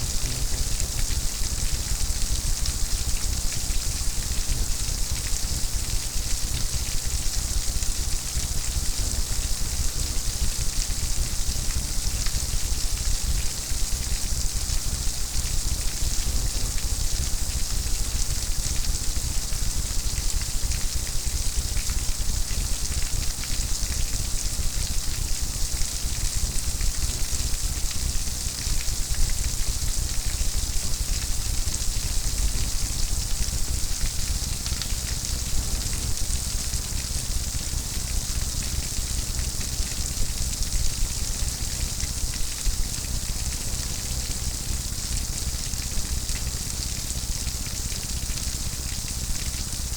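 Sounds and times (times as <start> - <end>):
steady rain falling: 0.1 - 49.9.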